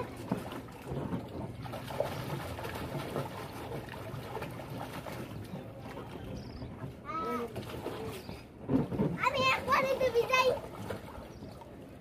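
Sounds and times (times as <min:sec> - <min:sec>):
water splashing in a pool: 0:00.0 - 0:12.0.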